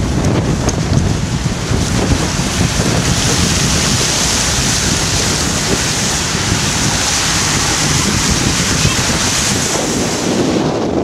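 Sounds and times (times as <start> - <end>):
car driving through floodwater: 0.0 - 11.0
wind buffeting microphone: 0.0 - 11.0.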